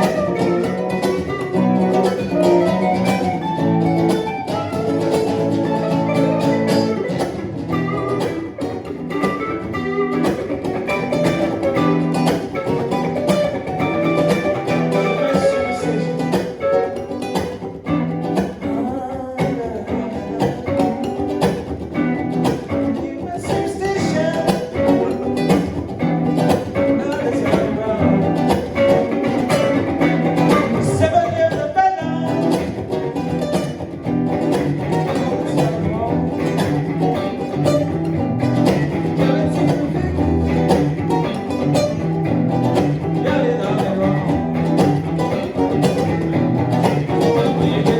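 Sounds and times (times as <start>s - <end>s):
guitars strumming and picking: 0.0s - 47.9s.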